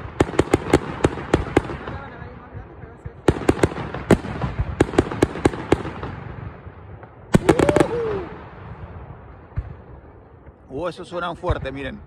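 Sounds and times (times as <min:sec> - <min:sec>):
sharp firework cracks: 0:00.0 - 0:10.7.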